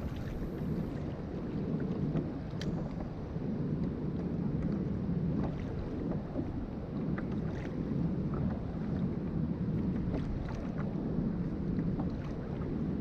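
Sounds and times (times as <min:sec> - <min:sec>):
water lapping against kayak: 0:00.0 - 0:13.0
wind rumbling on microphone: 0:00.0 - 0:13.0.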